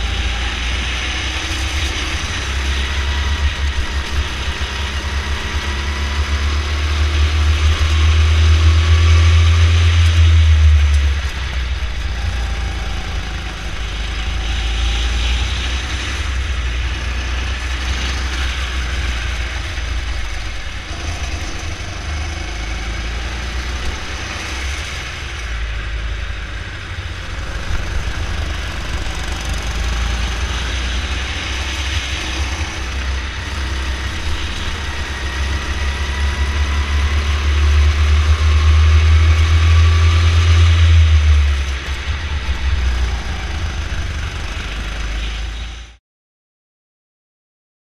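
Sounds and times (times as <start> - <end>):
go-kart engine running: 0.0 - 45.9.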